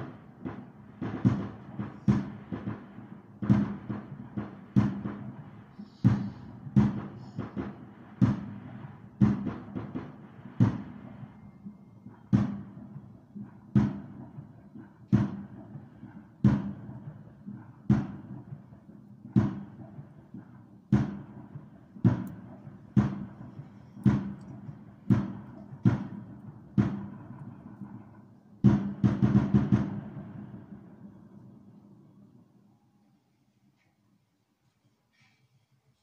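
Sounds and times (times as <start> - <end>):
firework shells booming: 0.0 - 32.6.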